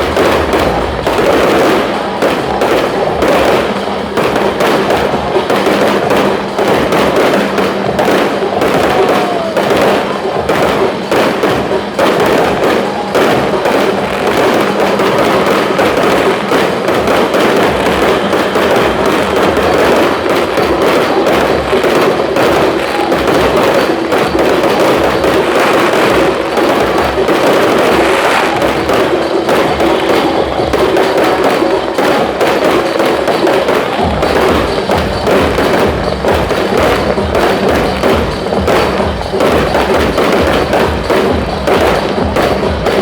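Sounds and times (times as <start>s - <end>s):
fireworks bursting and crackling: 0.0s - 43.0s.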